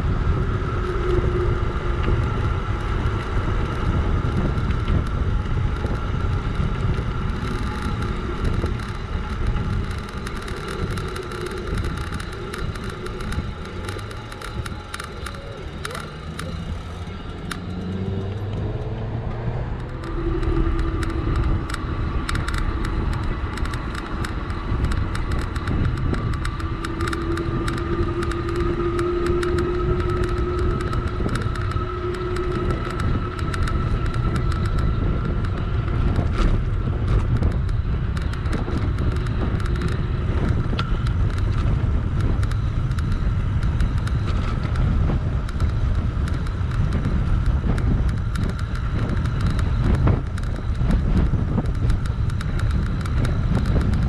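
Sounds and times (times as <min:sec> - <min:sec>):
electric motor whine: 0:00.0 - 0:54.0
wind rumbling on microphone: 0:00.0 - 0:54.0.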